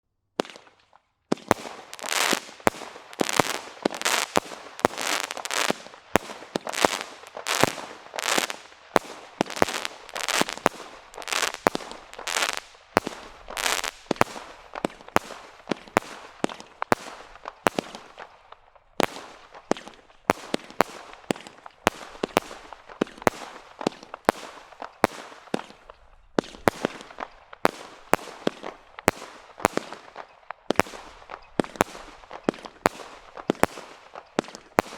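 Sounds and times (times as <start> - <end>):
firework crackling: 0.4 - 34.9
firework barrage shots: 1.3 - 34.9.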